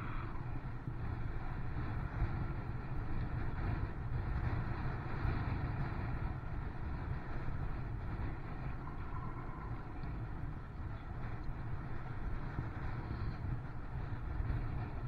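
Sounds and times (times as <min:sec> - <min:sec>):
bicycle tyres on wet tarmac: 0:00.0 - 0:15.0
wind rumble on microphone: 0:00.0 - 0:15.0.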